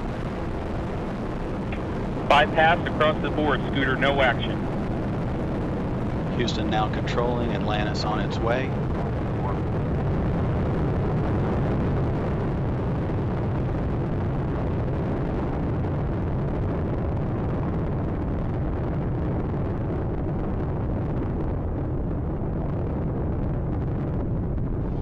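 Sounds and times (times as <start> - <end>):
rocket engines rumbling: 0.0 - 25.0.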